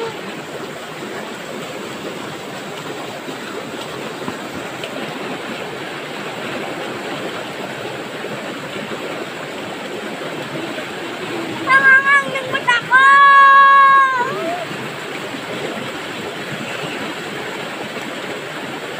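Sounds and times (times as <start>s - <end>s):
river water rushing: 0.0s - 18.9s.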